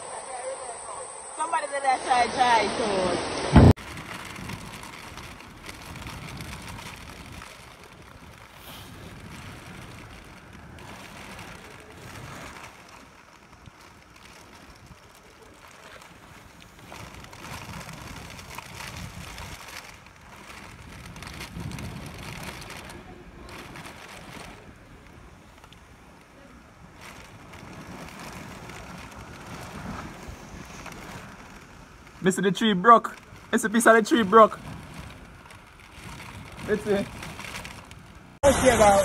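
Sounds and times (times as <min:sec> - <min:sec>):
gusting wind: 0:00.0 - 0:39.0
heavy rain: 0:00.0 - 0:39.0.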